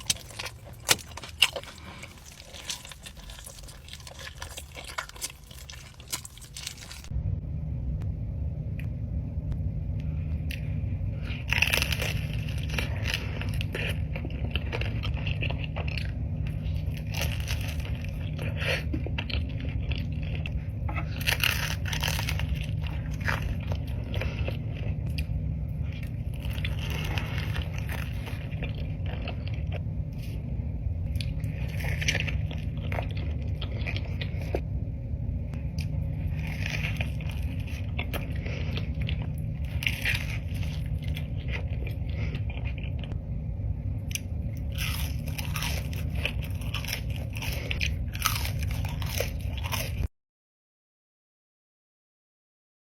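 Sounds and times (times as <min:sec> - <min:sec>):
crunchy food being chewed: 0:00.0 - 0:07.1, 0:10.3 - 0:34.7, 0:35.5 - 0:43.3, 0:44.0 - 0:50.1
steady low hum: 0:00.0 - 0:50.1.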